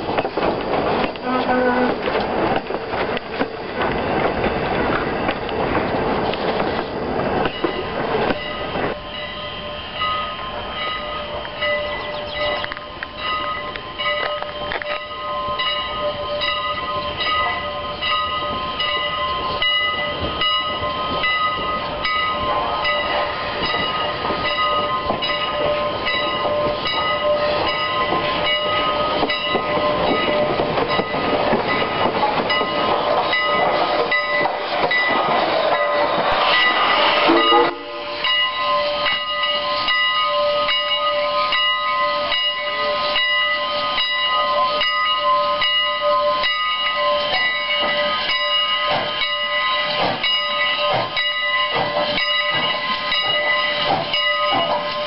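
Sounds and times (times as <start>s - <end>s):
steam locomotive rolling past: 0.0s - 55.0s
bell ringing: 7.5s - 55.0s.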